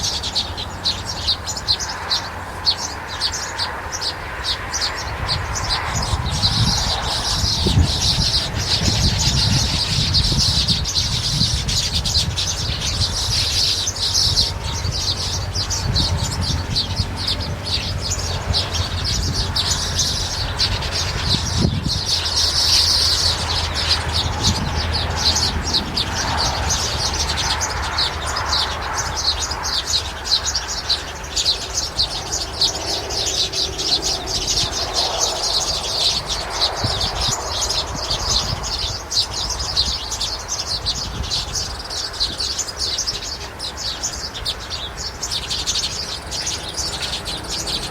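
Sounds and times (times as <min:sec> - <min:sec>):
many birds chirping: 0:00.0 - 0:47.9.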